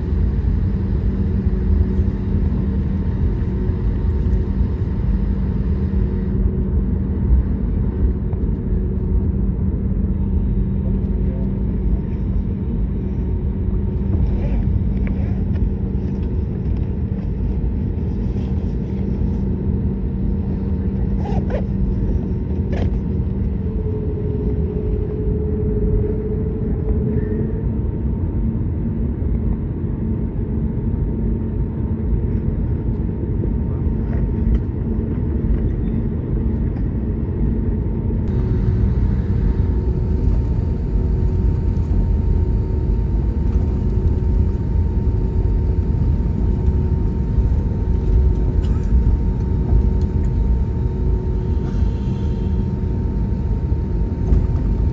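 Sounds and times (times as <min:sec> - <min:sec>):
aircraft engines and airflow rumble: 0:00.0 - 0:54.9.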